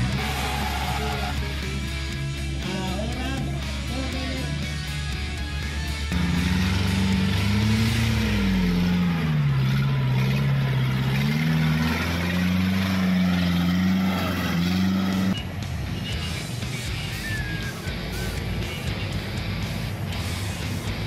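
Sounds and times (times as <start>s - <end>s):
engine labouring through mud: 0.0s - 2.2s, 5.6s - 21.0s.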